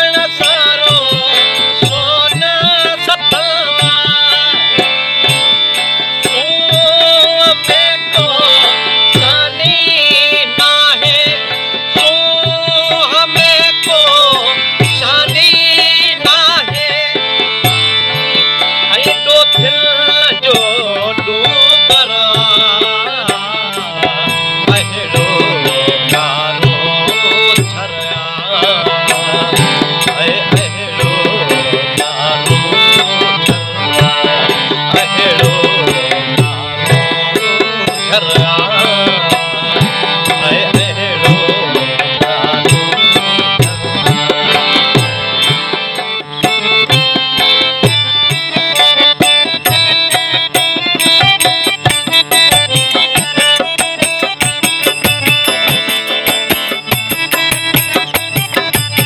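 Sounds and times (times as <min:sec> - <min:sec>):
harmonium: 0:00.0 - 0:59.0
man singing: 0:00.0 - 0:59.0
steady drum beat: 0:09.1 - 0:59.0.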